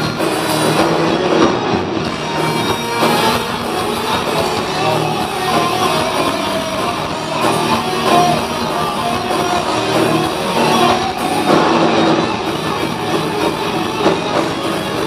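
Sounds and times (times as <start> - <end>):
distorted guitars: 0.0 - 15.0
drums: 0.0 - 15.0
heavy metal band playing live: 0.0 - 15.0.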